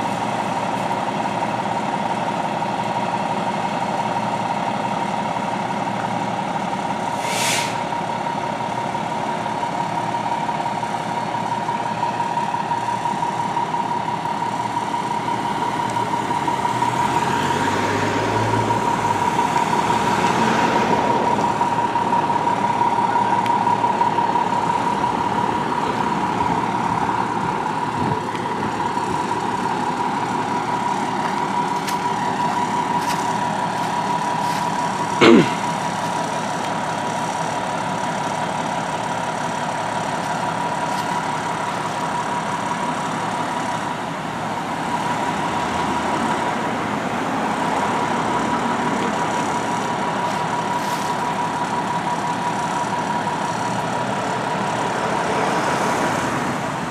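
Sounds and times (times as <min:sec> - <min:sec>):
fire engine idling: 0:00.0 - 0:56.9.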